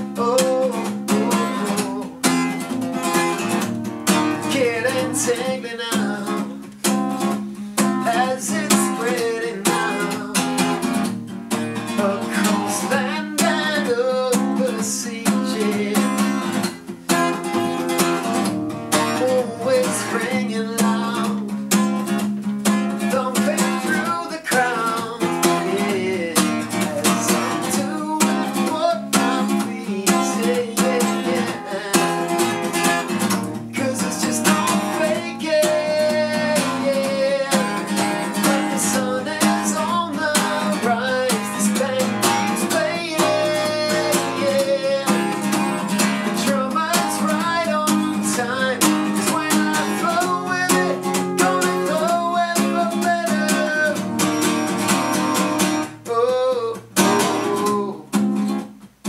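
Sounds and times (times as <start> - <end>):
man singing: 0.0 - 3.5, 4.1 - 16.8, 18.9 - 22.1, 22.9 - 58.2
acoustic guitar strummed and picked: 0.0 - 59.0.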